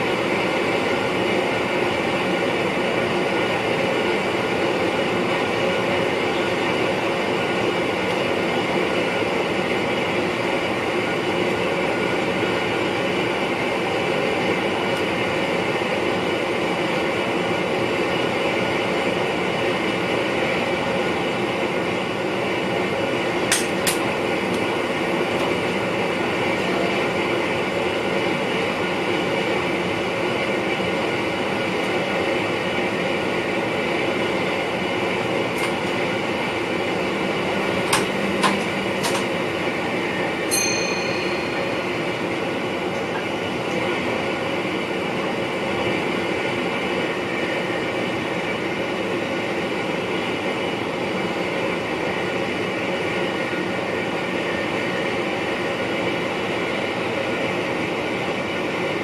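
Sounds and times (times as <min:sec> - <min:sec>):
electric train running noise: 0:00.0 - 0:59.0.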